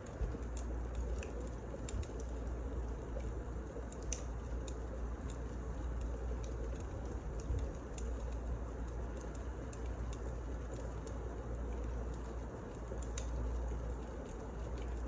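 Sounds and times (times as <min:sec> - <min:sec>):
firewood crackling: 0:00.0 - 0:15.0
low rumble of fire: 0:00.0 - 0:15.0.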